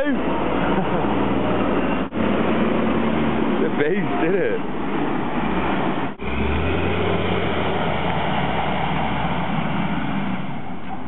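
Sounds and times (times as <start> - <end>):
large diesel engine running: 0.0 - 11.0.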